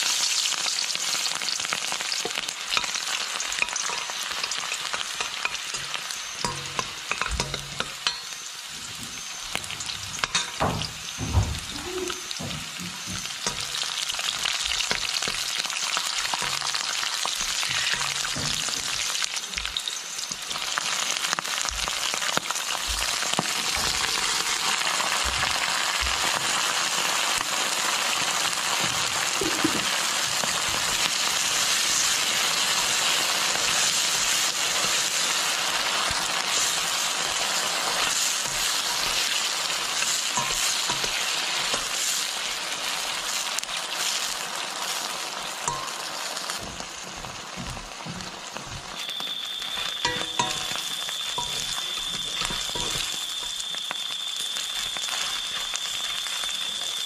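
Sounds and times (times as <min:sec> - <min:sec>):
hot oil sizzling in a wok: 0:00.0 - 0:57.0.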